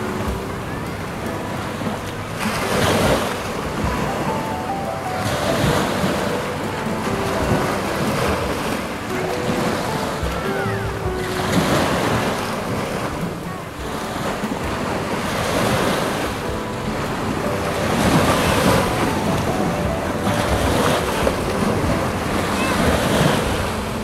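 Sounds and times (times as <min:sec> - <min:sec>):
small waves breaking on beach: 0:00.0 - 0:24.0
wind buffeting microphone: 0:00.0 - 0:24.0.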